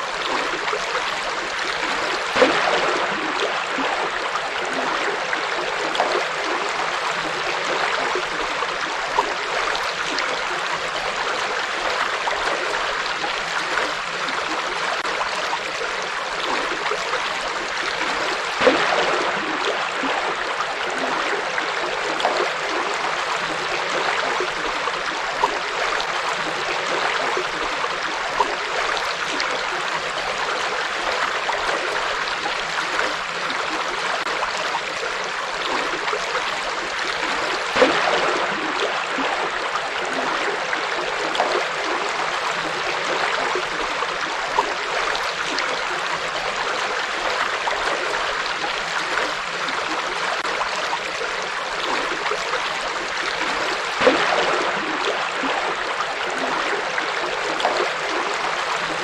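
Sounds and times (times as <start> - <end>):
water splash: 0.0 - 34.6, 35.6 - 51.0, 51.7 - 59.0.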